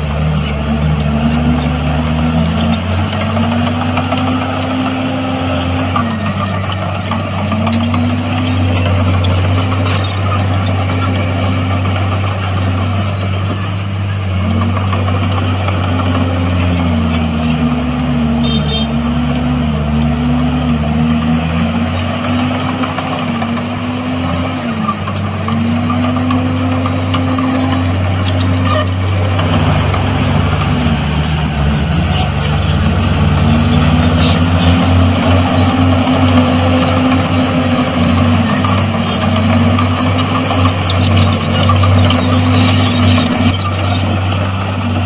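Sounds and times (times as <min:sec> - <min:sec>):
heavy machine engine running: 0:00.0 - 0:45.0.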